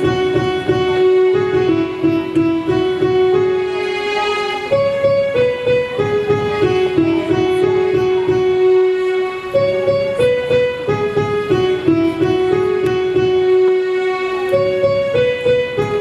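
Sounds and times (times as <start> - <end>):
electronic keyboard slow melody: 0.0 - 16.0
low rhythmic accompaniment: 0.0 - 16.0.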